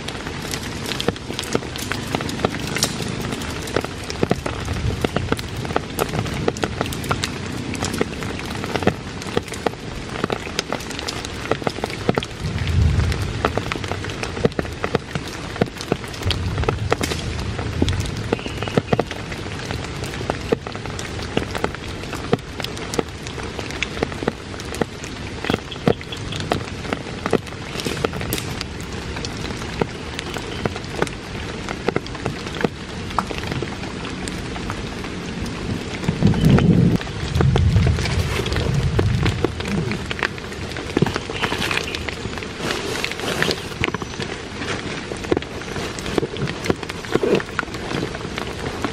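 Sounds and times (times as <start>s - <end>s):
low rumbles: 0.0s - 11.5s, 12.2s - 31.8s, 33.0s - 42.6s
sharp water drips: 0.0s - 48.9s
steady rain in forest: 0.0s - 48.9s.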